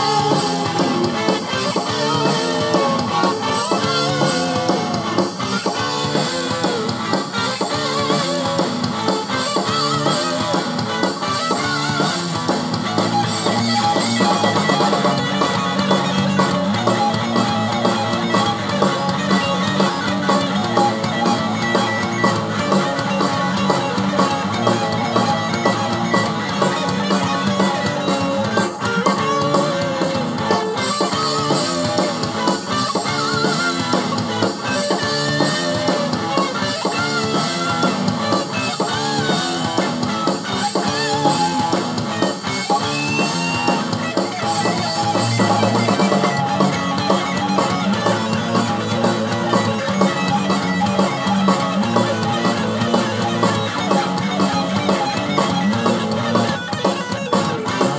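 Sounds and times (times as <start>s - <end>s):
rock music with guitar and drums: 0.0s - 57.9s.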